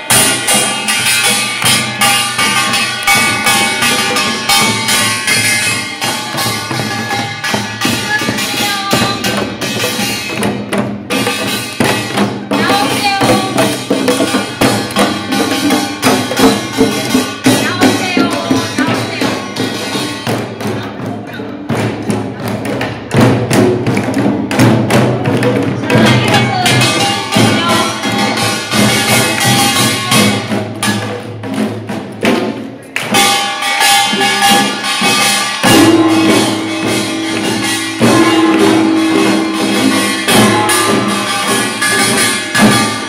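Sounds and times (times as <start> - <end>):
small brass gongs clanging: 0.0 - 20.8, 25.9 - 31.7, 33.1 - 43.0
hourglass drums beaten fast: 0.0 - 43.0.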